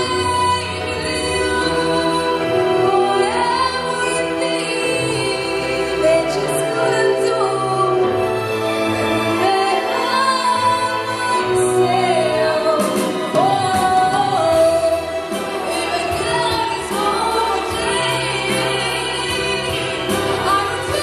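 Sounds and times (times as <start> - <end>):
woman singing pop song: 0.0 - 8.4, 9.3 - 21.0
backing track: 0.0 - 21.0.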